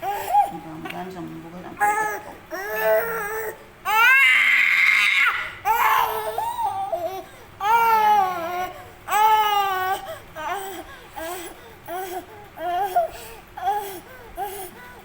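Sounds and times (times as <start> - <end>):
baby crying: 0.0 - 0.6, 1.8 - 15.0.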